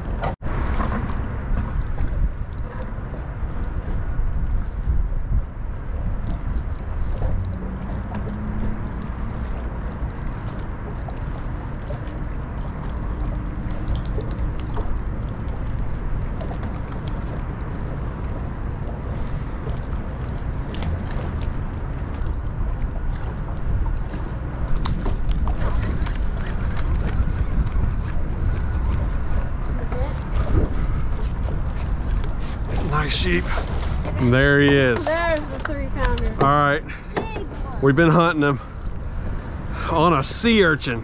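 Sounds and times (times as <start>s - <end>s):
wind rumble: 0.0s - 39.8s
water lapping: 0.0s - 41.0s.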